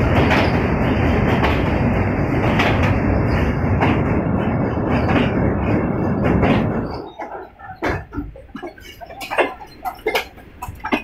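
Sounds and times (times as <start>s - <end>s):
train rumbling over bridge: 0.0s - 11.0s
wheels clacking over rail joints: 0.0s - 11.0s.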